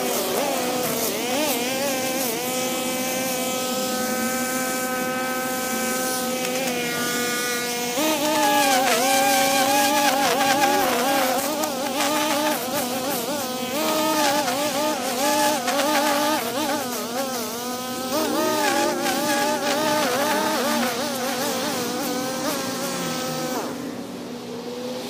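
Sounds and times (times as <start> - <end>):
string trimmer engine: 0.0 - 25.0.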